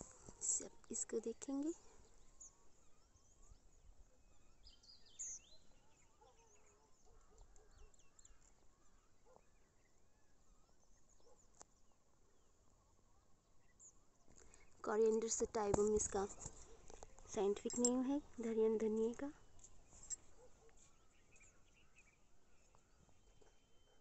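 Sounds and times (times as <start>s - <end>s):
faint bird chirps: 0.1s - 24.0s.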